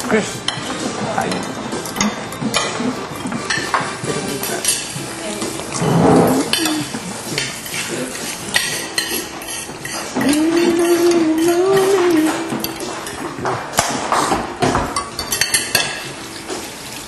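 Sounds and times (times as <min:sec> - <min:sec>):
dishes and utensils clinking: 0:00.0 - 0:17.0.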